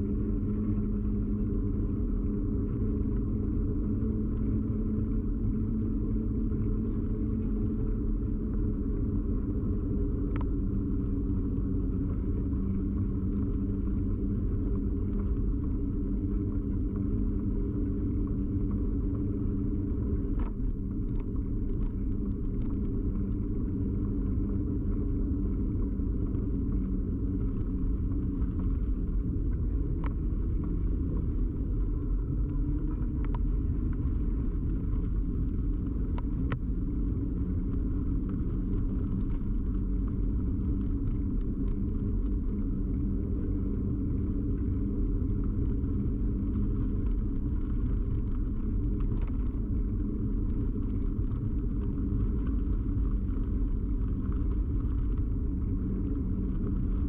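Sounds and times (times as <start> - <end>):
bicycle tyre and frame rumble: 0.0 - 57.0.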